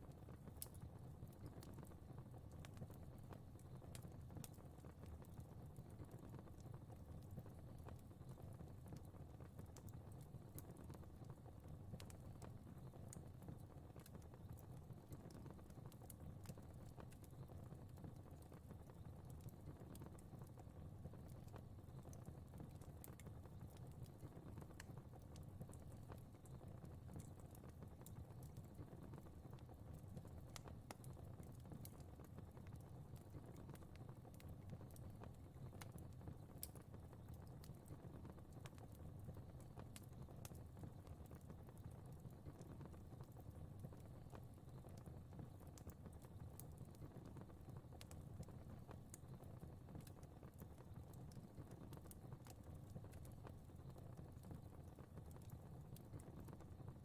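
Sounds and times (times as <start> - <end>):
fire crackling: 0.1 - 57.0.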